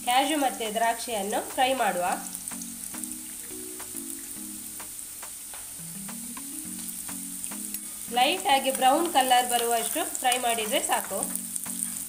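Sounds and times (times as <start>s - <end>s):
ghee sizzling in a pan: 0.0s - 12.0s
slow background music: 0.0s - 12.0s.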